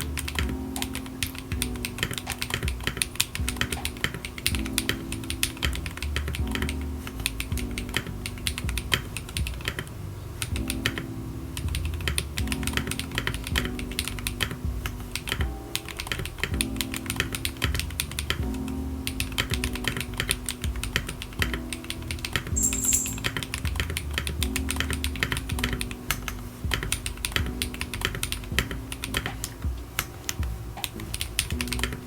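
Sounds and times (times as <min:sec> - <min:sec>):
mechanical keyboard typing: 0:00.0 - 0:32.0.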